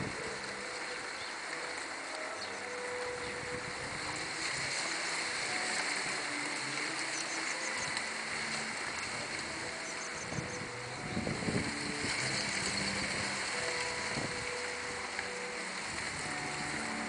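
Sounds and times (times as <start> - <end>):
low rustle: 0.0 - 17.0
steady outdoor hiss: 0.0 - 17.0.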